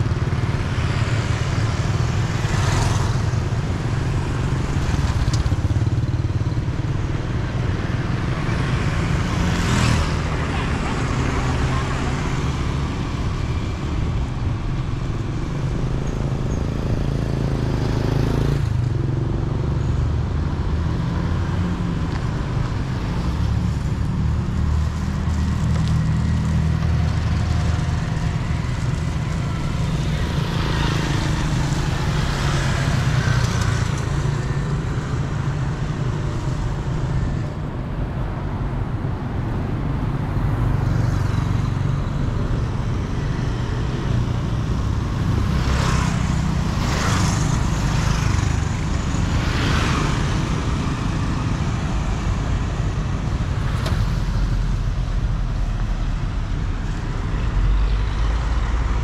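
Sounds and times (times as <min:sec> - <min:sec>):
low rumble of road traffic: 0:00.0 - 0:59.0.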